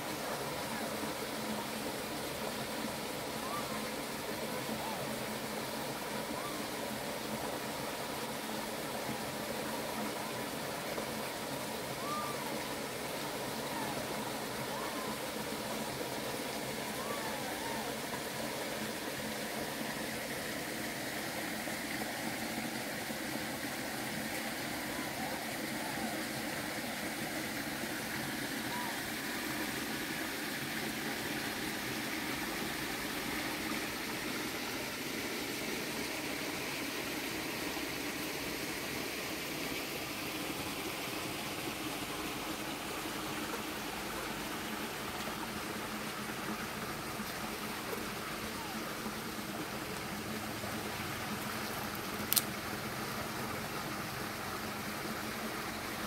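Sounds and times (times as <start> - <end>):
shallow stream rushing: 0.0 - 56.0.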